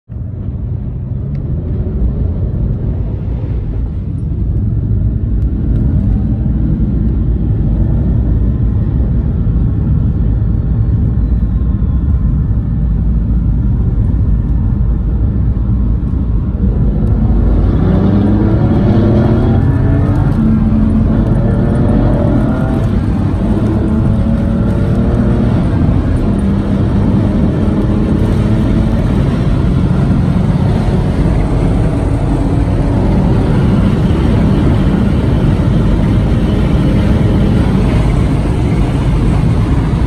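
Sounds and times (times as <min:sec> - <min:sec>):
car engine accelerating: 0:00.2 - 0:40.0.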